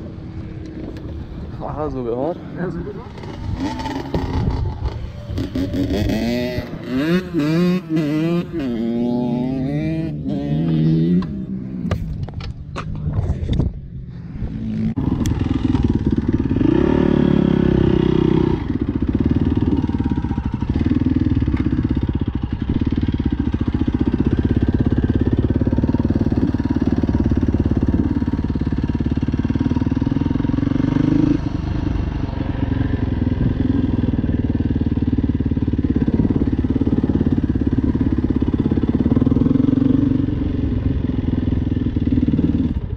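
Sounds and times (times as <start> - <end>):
dirt bike engine revving: 2.2 - 11.9, 14.5 - 42.8.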